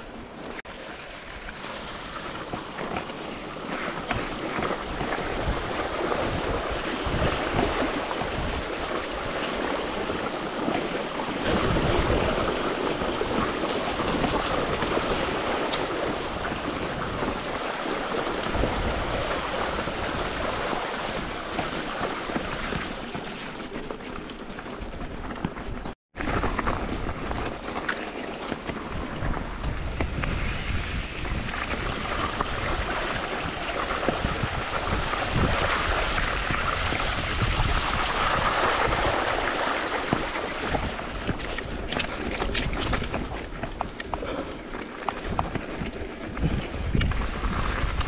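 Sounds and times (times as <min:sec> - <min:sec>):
wind buffeting microphone: 0:01.3 - 0:24.0, 0:24.8 - 0:48.0.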